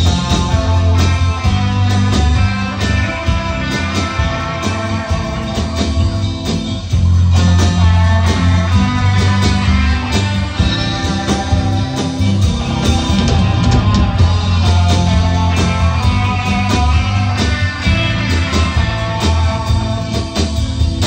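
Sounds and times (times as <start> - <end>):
electric guitar: 0.0 - 21.0
heavy bass line: 0.0 - 21.0
rock band playing: 0.0 - 21.0.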